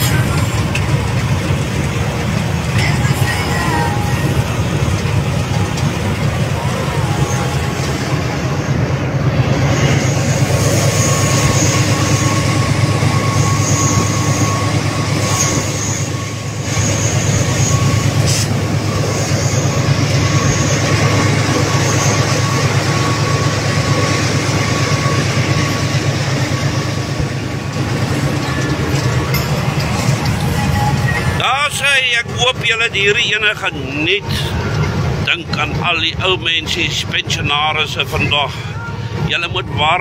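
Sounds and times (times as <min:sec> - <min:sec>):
diesel locomotive engine drone: 0:00.0 - 0:40.0
wheel and rail noise: 0:00.0 - 0:40.0.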